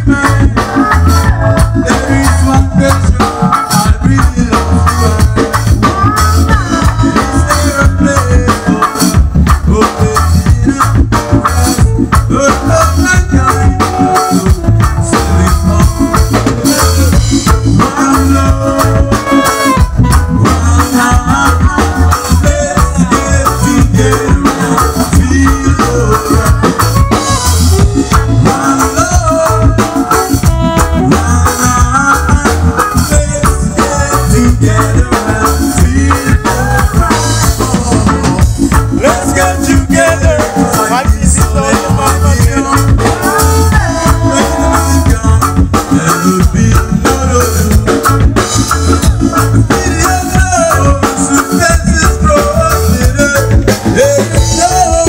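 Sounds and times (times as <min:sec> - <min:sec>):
drum kit: 0:00.0 - 0:55.0
electric bass: 0:00.0 - 0:55.0
electric guitar: 0:00.0 - 0:55.0
man singing: 0:00.0 - 0:55.0
saxophone: 0:00.0 - 0:55.0.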